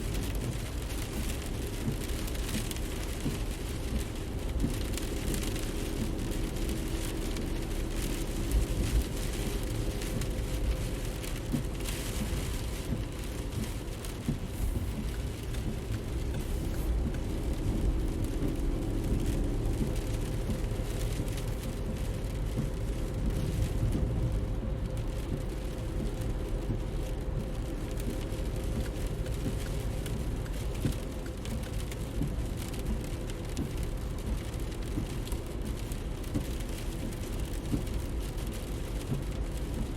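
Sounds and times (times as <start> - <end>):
car engine rumble: 0.0 - 39.9
light ticks: 0.0 - 39.9
tyre noise on road: 0.0 - 39.9.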